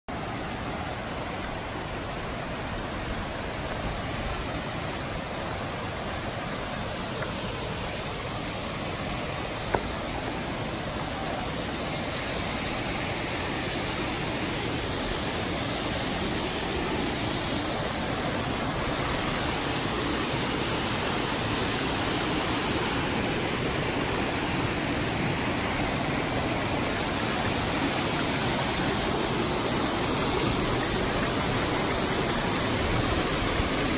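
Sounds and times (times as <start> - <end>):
mountain stream and waterfall rushing: 0.1 - 33.9.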